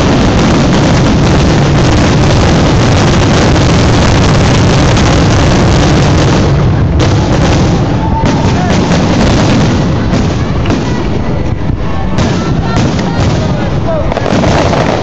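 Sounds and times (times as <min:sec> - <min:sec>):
rapid fireworks barrage: 0:00.0 - 0:15.0.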